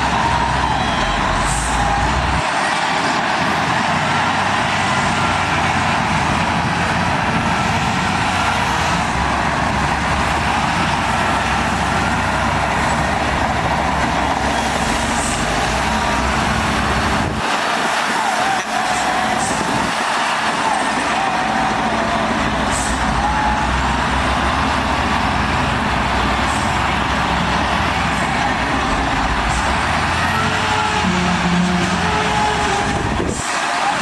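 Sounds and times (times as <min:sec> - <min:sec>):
heavy diesel machinery running: 0:00.0 - 0:34.0.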